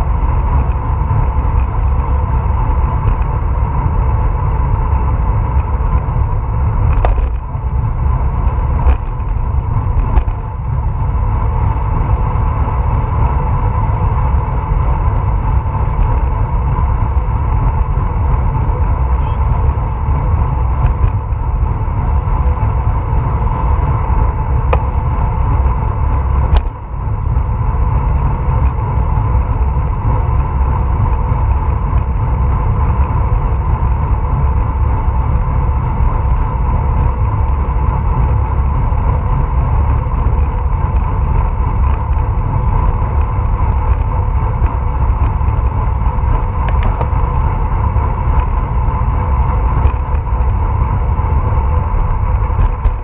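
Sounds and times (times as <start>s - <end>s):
faint steady hum: 0.0s - 53.0s
wind buffeting microphone: 0.0s - 53.0s.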